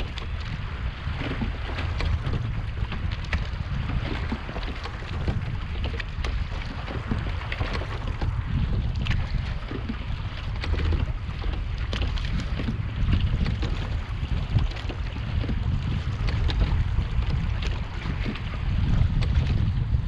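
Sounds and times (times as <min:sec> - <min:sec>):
small water splashes: 0:00.0 - 0:20.0
water rushing past boat hull: 0:00.0 - 0:20.0
wind buffeting microphone: 0:00.0 - 0:20.0.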